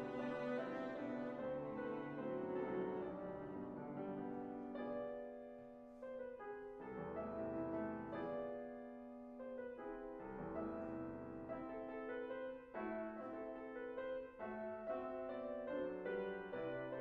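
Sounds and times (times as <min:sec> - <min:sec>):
grand piano playing: 0:00.0 - 0:17.0.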